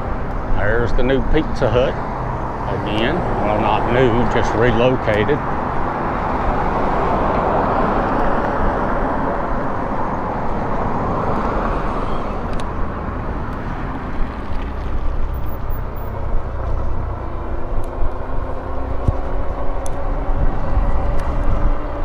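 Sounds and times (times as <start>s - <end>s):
passing traffic rush: 0.0s - 22.0s
wind rumble and road noise: 0.0s - 22.0s.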